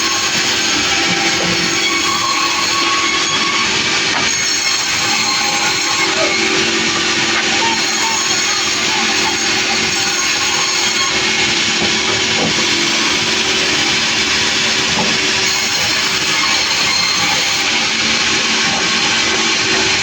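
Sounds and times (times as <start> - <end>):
sawmill machinery hissing: 0.0 - 20.0.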